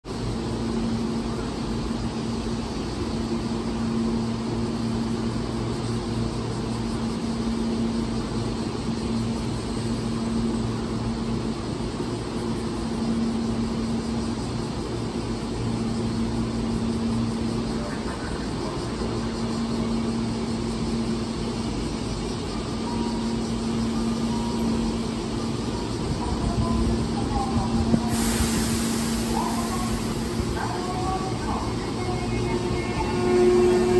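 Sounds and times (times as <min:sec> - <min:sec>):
electric train equipment droning: 0:00.1 - 0:33.9.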